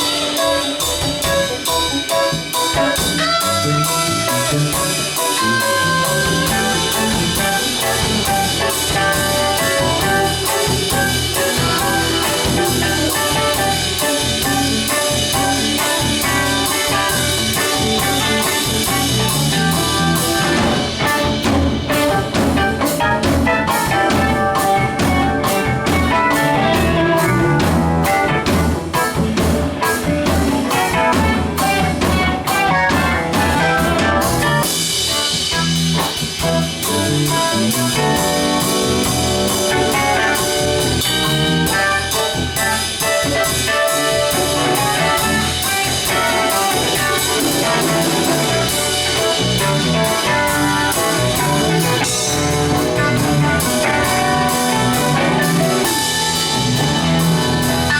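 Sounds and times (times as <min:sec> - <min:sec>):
bass guitar: 0:00.0 - 0:57.9
drum kit: 0:00.0 - 0:57.9
guitar: 0:00.0 - 0:57.9.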